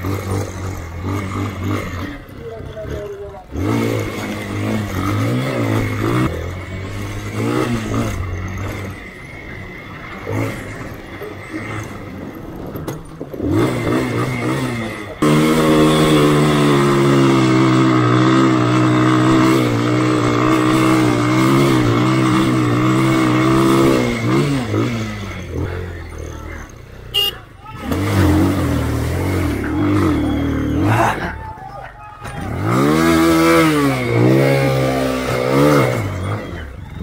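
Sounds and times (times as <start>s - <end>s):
vehicle engines revving: 0.0s - 37.0s.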